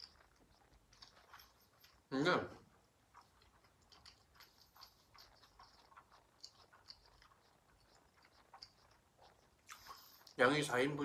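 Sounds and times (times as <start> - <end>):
chewing noodles: 0.0 - 11.0.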